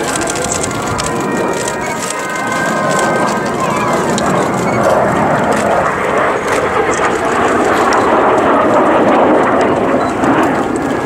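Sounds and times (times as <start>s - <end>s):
jet engines flying by: 0.0s - 11.0s.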